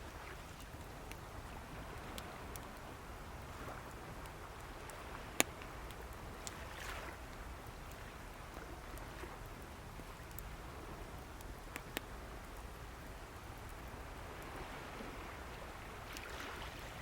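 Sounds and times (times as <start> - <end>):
wood fire crackling: 0.0 - 14.6
waves washing on shore: 0.0 - 17.0.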